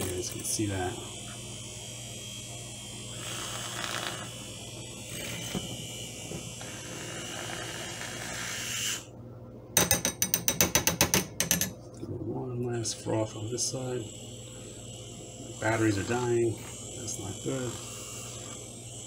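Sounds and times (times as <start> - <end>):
milk frother whirring: 0.0 - 9.1, 12.8 - 19.0.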